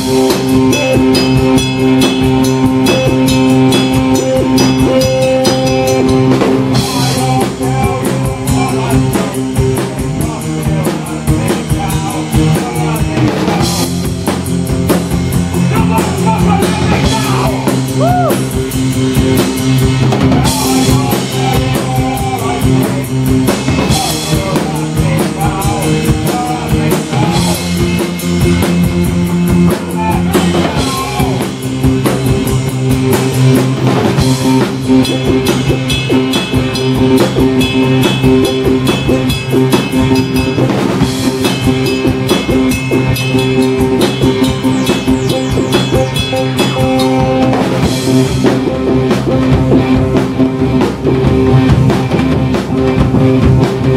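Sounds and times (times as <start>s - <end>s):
drum kit beat: 0.0s - 53.9s
live rock band playing: 0.0s - 53.9s.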